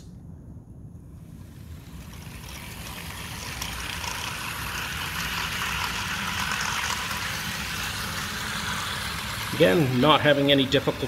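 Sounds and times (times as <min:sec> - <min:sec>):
model train motors whirring: 0:01.2 - 0:11.0
model train wheels rolling on track: 0:01.2 - 0:11.0.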